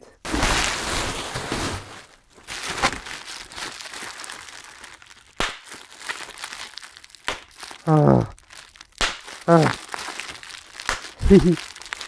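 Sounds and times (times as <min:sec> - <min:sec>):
bubble wrap crinkling: 0:00.2 - 0:12.0.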